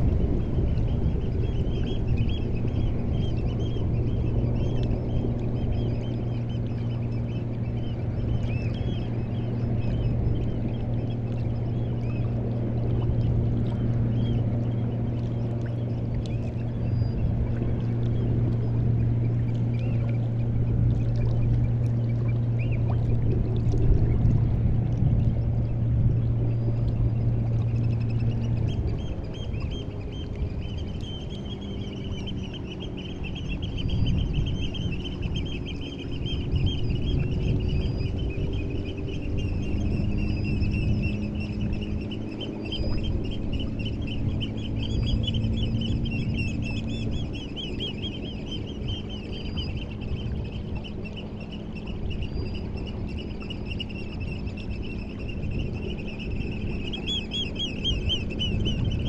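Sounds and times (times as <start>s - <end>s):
faint steady hum: 0.0s - 59.0s
seabirds calling: 0.0s - 59.0s
tide rumble: 0.0s - 59.0s.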